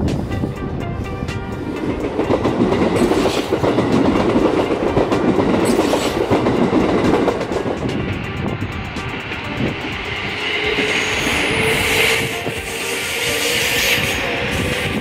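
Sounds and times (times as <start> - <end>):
train running past: 0.0 - 15.0
wheels clacking over rail joints: 1.7 - 15.0.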